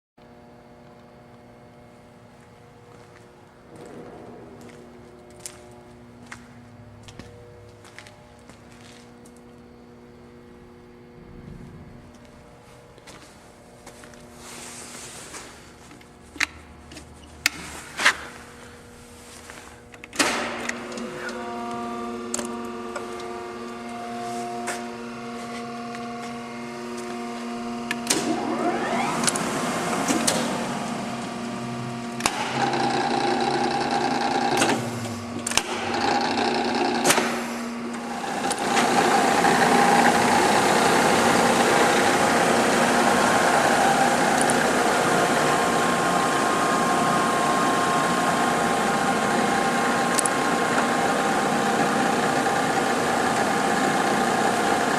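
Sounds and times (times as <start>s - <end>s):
grinder motor hum: 0.2s - 54.9s
rising whine: 0.9s - 16.6s, 20.6s - 54.9s.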